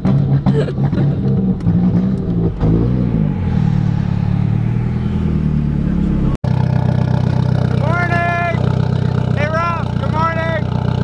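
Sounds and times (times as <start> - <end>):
car engine heard from inside: 0.2 - 11.0.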